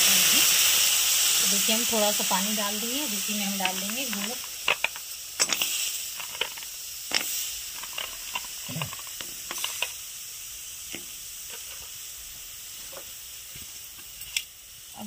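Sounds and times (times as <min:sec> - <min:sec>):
water sizzling in a pan: 0:00.0 - 0:15.0.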